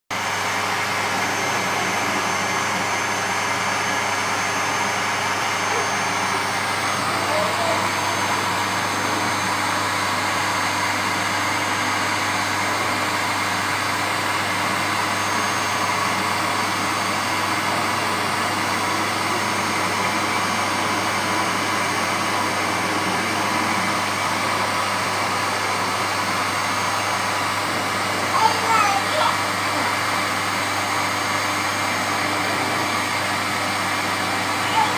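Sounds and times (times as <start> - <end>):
vacuum cleaner running: 0.1 - 34.9.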